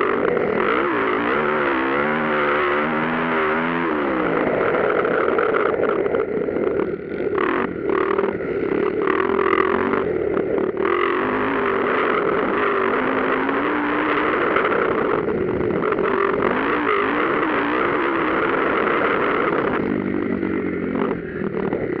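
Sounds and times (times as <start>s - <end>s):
motocross engines revving: 0.0s - 22.0s.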